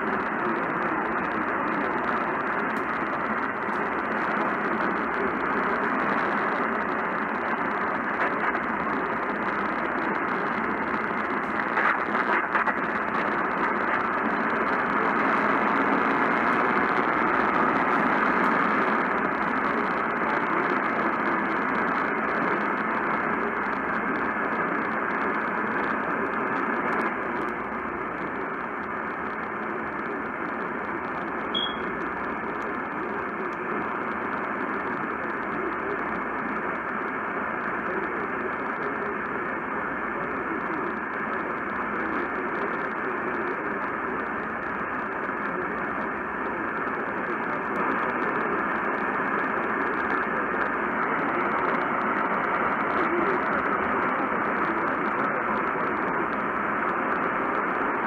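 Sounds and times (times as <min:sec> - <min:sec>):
radio static hissing: 0:00.0 - 0:58.0.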